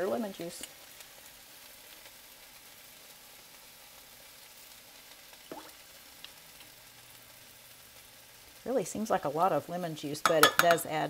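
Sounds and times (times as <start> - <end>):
food sizzling in a skillet: 0.0 - 11.0.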